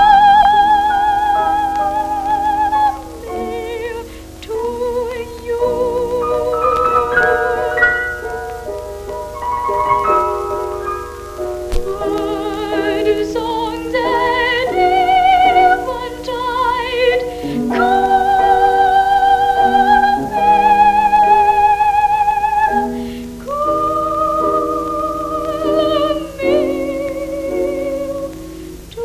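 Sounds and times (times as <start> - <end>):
boy singing a ballad: 0.0 - 8.7, 11.6 - 29.0
piano chords: 0.0 - 29.0.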